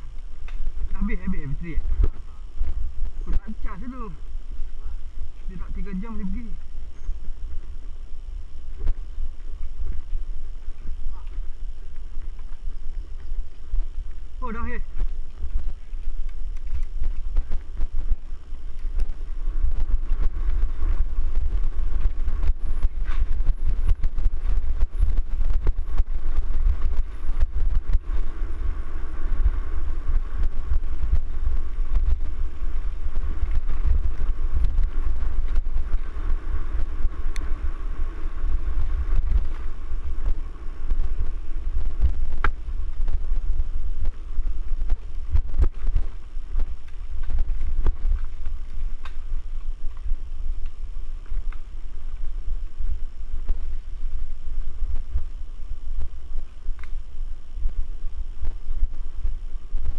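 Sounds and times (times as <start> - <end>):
bike clicks and rattles: 0.0 - 3.9, 4.5 - 57.2
wind buffeting microphone: 0.0 - 59.9.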